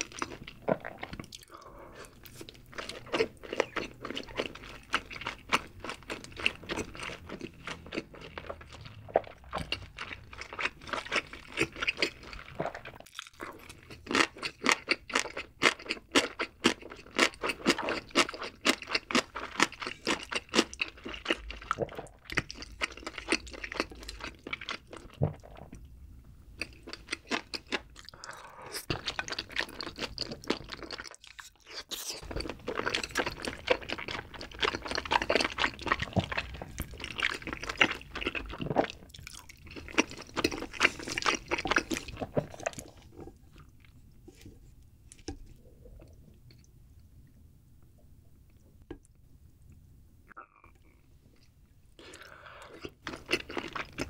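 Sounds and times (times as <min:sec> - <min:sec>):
person chewing food: 0:00.0 - 0:47.1, 0:48.5 - 0:54.0.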